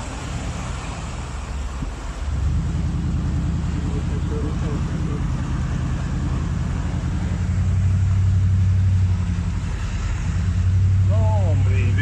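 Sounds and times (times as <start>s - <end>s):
vehicle engine running: 0.0s - 12.0s
water splashing against vehicle: 0.0s - 12.0s.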